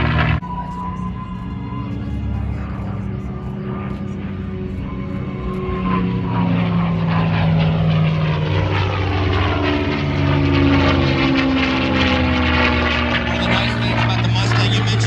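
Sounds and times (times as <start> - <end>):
propeller airplane engine: 0.0 - 15.0.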